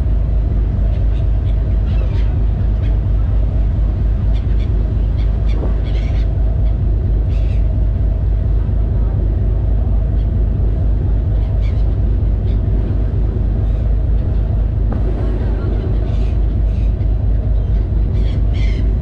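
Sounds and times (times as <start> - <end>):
ferry engine droning: 0.0 - 19.0
gull cries: 0.9 - 8.2, 11.0 - 19.0.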